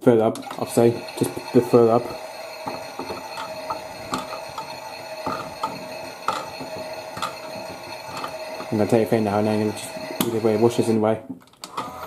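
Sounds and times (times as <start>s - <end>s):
small motor whining: 0.4s - 11.0s, 11.7s - 12.0s.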